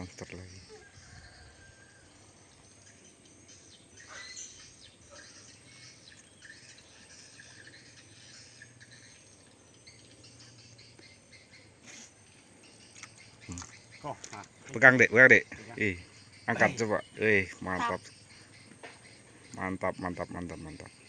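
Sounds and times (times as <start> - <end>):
birds chirping: 0.0 - 21.0
insects calling: 0.0 - 21.0.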